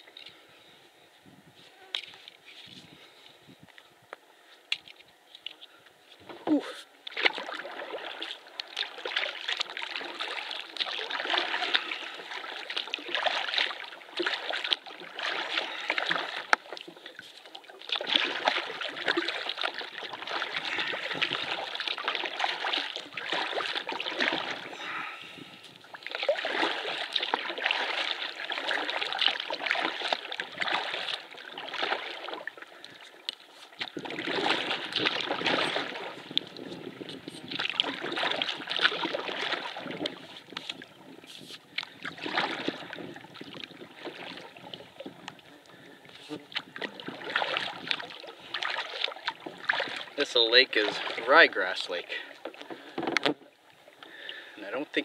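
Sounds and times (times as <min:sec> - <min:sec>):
canoe paddle splashing water: 0:06.2 - 0:55.0.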